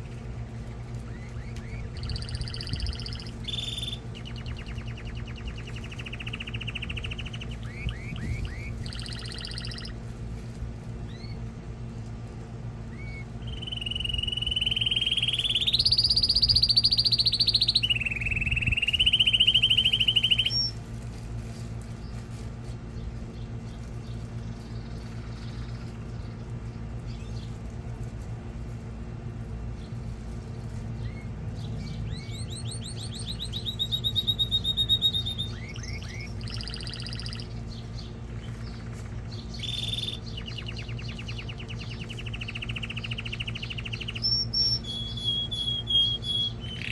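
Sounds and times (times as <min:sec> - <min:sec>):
canary singing trills: 0:00.0 - 0:10.3, 0:11.0 - 0:11.9, 0:12.6 - 0:20.9, 0:22.8 - 0:27.6, 0:29.6 - 0:46.9
steady low hum: 0:00.0 - 0:46.9.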